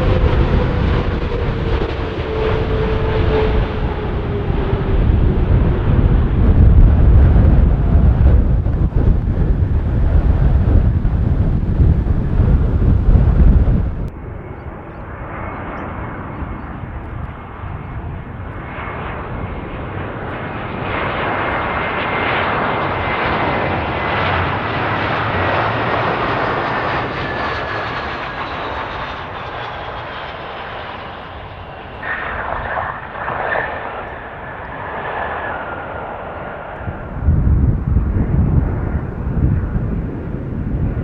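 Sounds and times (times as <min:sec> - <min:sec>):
jet airliner engine rush: 0:00.0 - 0:41.0.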